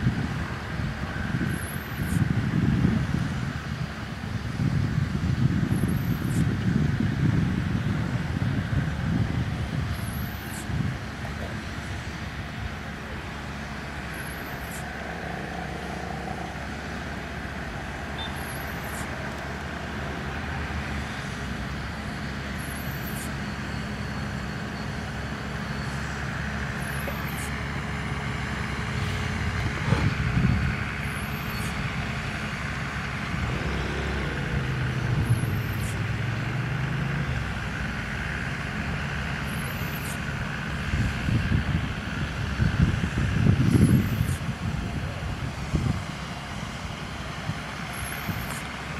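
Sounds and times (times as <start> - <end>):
tow tractor engine running: 0.0 - 48.9.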